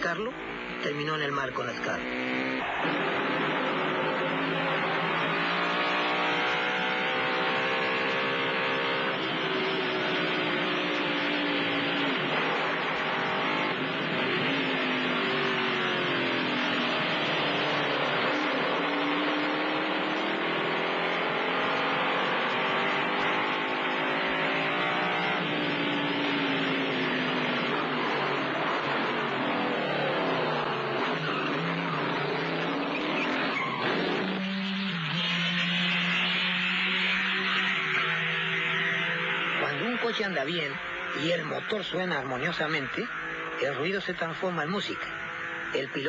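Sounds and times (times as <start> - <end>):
racing car engine revving: 0.0 - 46.0.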